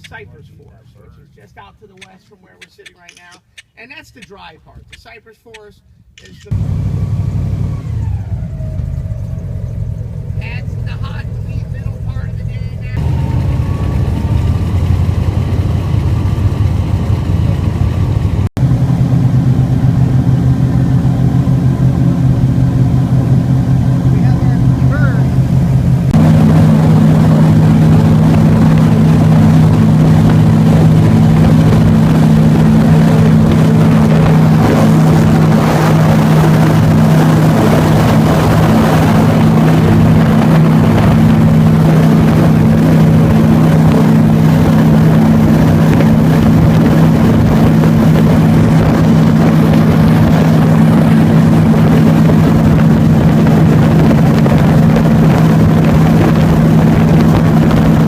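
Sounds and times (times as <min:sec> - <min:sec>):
airboat engine and propeller: 0:00.0 - 0:58.0.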